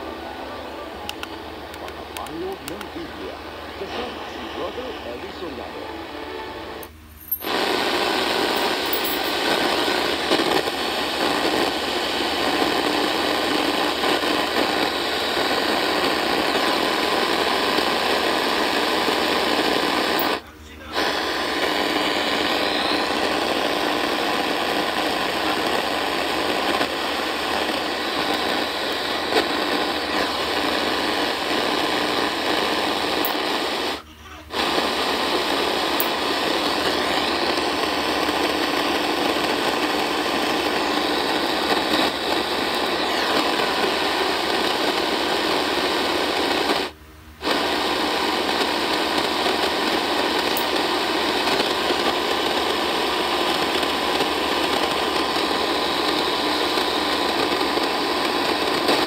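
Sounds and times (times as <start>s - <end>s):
radio static hiss and buzz: 0.0s - 59.0s.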